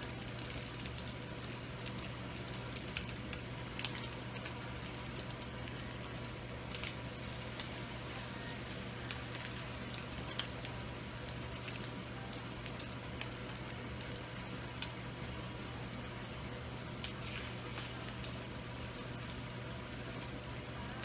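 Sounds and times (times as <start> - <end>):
sausage sizzling in oil: 0.0 - 21.0.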